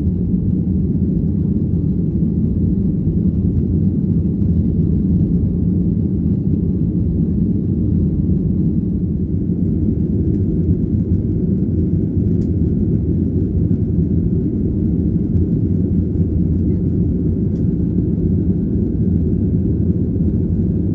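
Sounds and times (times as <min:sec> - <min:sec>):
airplane engine rumble in cabin: 0:00.0 - 0:20.9.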